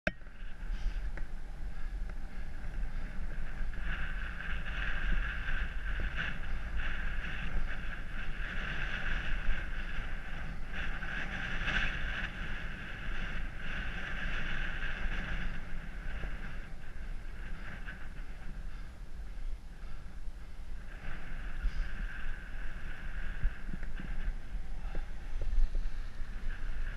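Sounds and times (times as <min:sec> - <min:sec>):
wind buffeting microphone: 0:00.1 - 0:26.9.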